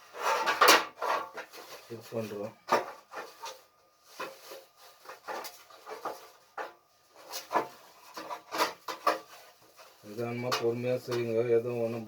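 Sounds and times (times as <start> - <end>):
metal parts scraping and knocking: 0.0 - 1.9, 2.7 - 11.3.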